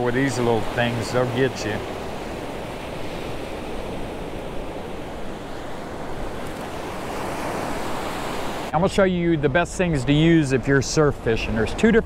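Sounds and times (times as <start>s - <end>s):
ocean surf on beach: 0.0s - 12.0s.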